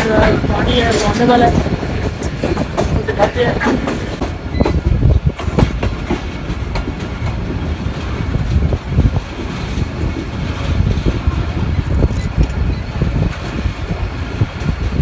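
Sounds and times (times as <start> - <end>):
train wheels clattering: 0.0 - 15.0.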